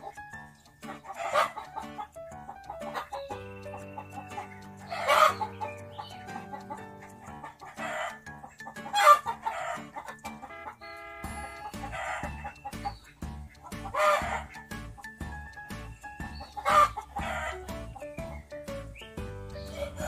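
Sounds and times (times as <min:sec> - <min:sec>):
background music: 0:00.0 - 0:20.0
chickens clucking and squawking: 0:00.0 - 0:20.0.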